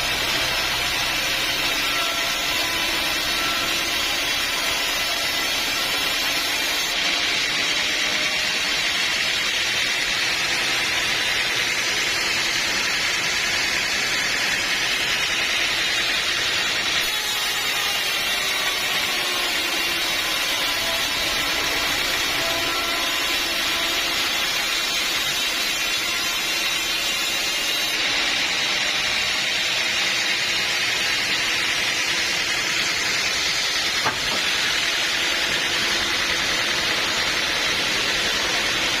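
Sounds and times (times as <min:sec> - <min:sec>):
sawmill machinery running: 0:00.0 - 0:39.0.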